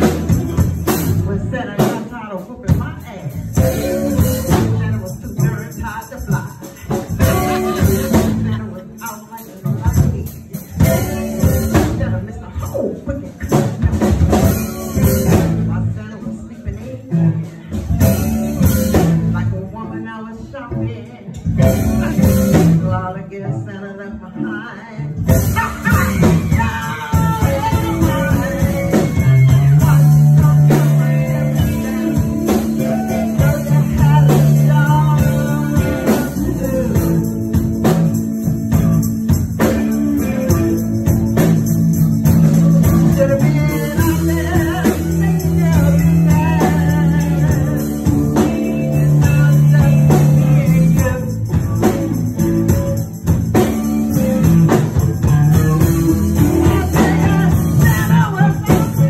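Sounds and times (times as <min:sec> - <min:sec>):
woman singing: 0:00.0 - 0:41.6, 0:42.2 - 0:59.0
live band playing: 0:00.0 - 0:59.0.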